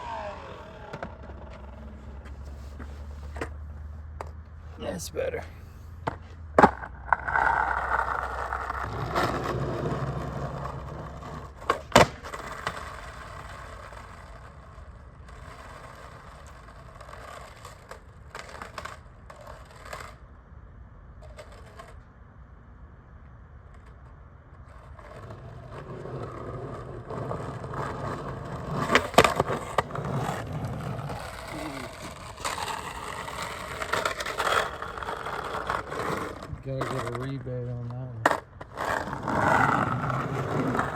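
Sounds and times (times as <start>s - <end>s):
skateboard clacks: 0.0s - 4.5s, 6.0s - 20.3s, 23.6s - 40.9s
skateboard wheels rolling on pavement: 0.0s - 40.9s.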